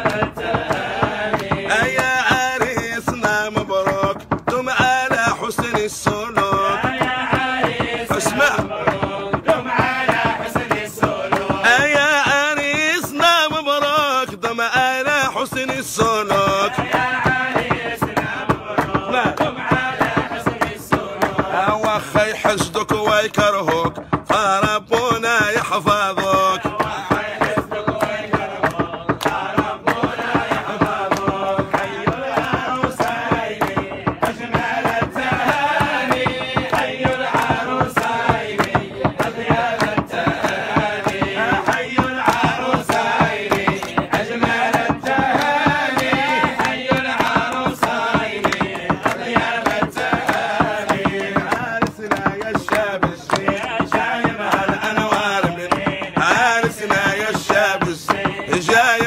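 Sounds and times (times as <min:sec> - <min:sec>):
men chanting: 0:00.0 - 0:59.0
percussive beat: 0:00.0 - 0:59.0.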